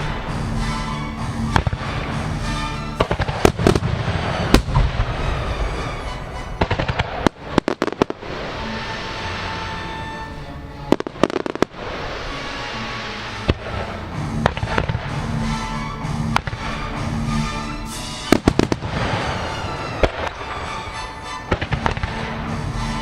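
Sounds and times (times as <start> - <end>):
firework shells bursting: 0.0 - 15.7, 16.3 - 23.0
music: 0.0 - 23.0.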